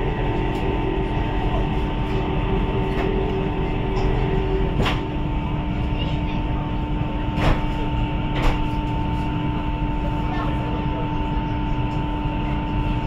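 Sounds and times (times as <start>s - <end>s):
steady hums: 0.0s - 13.0s
train cabin rumble and hiss: 0.0s - 13.0s.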